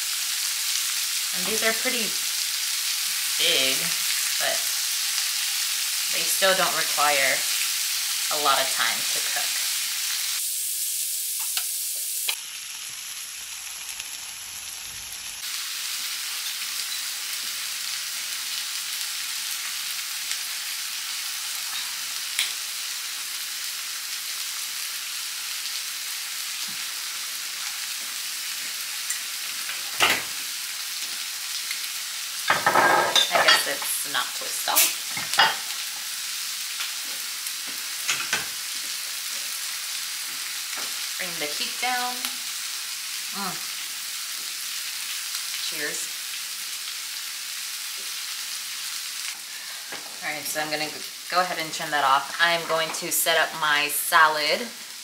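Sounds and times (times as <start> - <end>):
shrimp sizzling in oil: 0.0 - 55.0.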